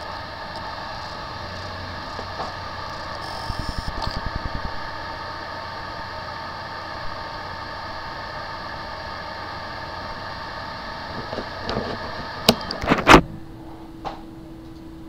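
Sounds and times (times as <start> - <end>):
hard drive humming: 0.0 - 15.0
whine tones: 0.0 - 15.0.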